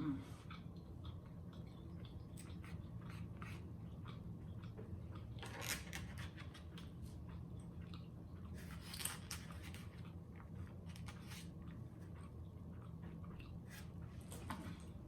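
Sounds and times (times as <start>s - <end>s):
crunchy chewing: 0.4s - 14.3s.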